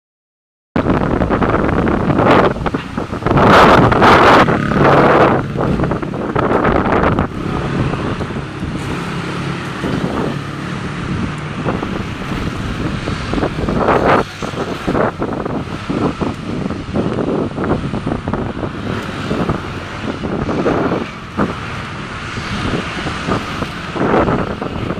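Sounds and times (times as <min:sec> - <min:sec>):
wind buffeting microphone: 0:00.8 - 0:24.9.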